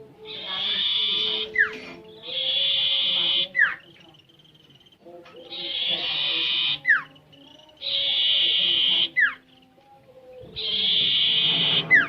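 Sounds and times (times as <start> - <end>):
bird buzzy trill song: 0.0 - 12.0.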